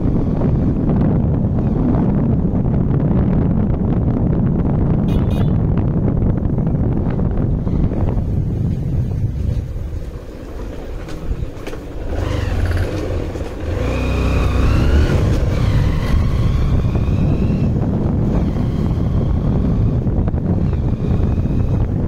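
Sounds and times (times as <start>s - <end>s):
motorcycle engine accelerating: 0.0s - 22.0s
wind rumble on microphone: 0.0s - 22.0s.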